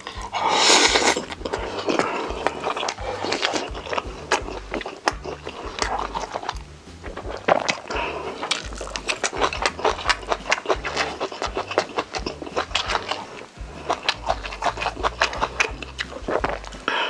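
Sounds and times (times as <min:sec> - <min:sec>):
person chewing with wet smacks: 0:00.0 - 0:16.9.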